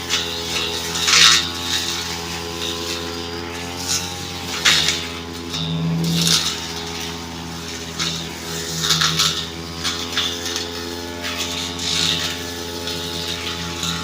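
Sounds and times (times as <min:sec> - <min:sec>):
brush cutter engine running: 0:00.0 - 0:14.0
cutting head slashing undergrowth: 0:00.0 - 0:14.0.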